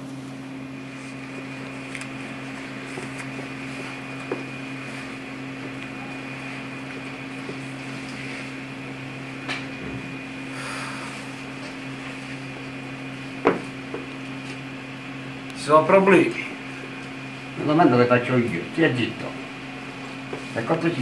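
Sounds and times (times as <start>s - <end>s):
machine hum with high whine: 0.0s - 21.0s.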